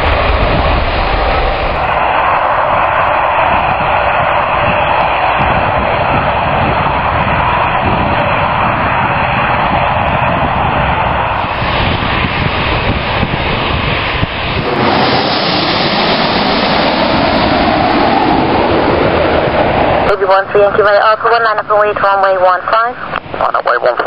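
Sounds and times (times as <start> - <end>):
jet engines at takeoff power: 0.0 - 24.0.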